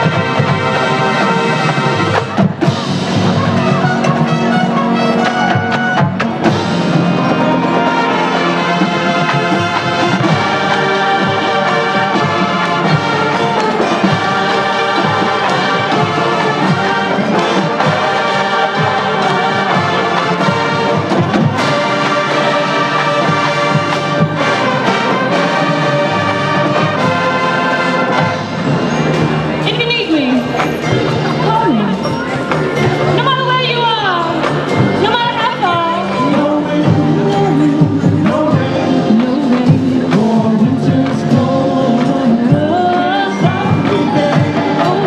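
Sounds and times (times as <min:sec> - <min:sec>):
marching band playing: 0:00.0 - 0:45.0.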